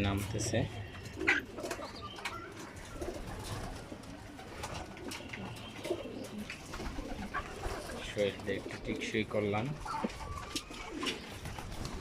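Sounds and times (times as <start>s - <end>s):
pigeons cooing: 0.5s - 12.0s.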